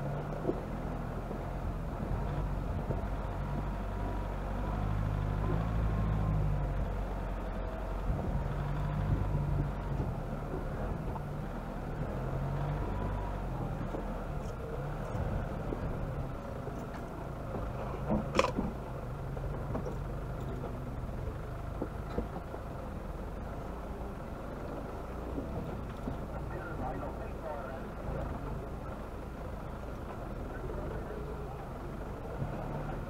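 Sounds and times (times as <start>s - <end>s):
off-road vehicle engine at low revs: 0.0s - 33.0s.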